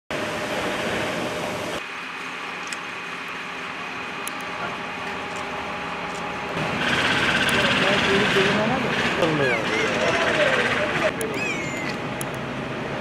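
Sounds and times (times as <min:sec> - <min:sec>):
diesel engine idling: 0:01.8 - 0:13.0.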